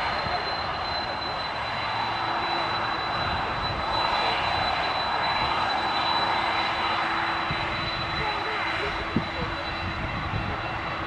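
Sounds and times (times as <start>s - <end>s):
airplane engines roaring: 0.0s - 11.0s
thin high whine: 0.0s - 11.0s.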